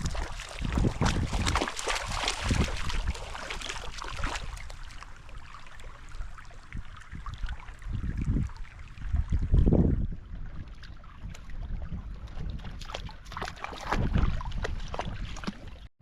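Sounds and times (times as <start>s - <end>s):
water splashing: 0.0s - 15.9s
wind buffeting microphone: 0.0s - 15.9s.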